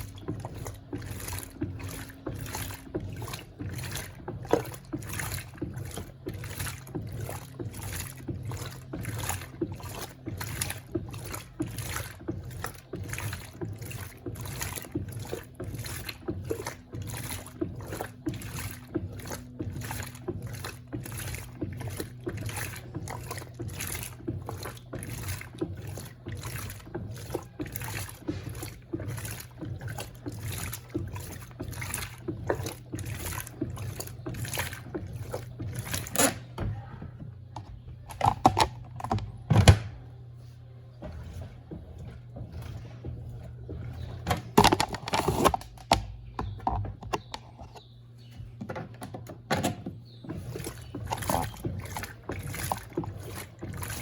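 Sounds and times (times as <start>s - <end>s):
motor hum: 0.0s - 54.0s
washing machine sloshing water: 0.0s - 54.0s.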